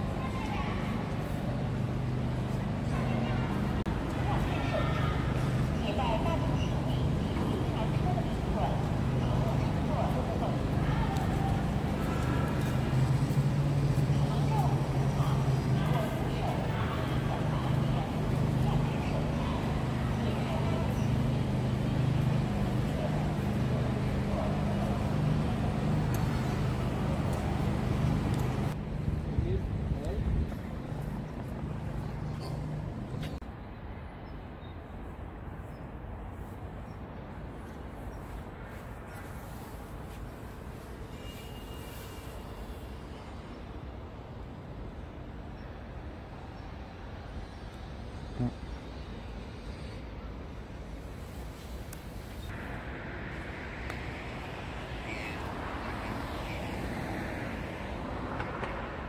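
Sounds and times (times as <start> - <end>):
city background noise: 0.0 - 59.0
dull steady noise: 0.0 - 59.0
road traffic noise: 0.0 - 59.0.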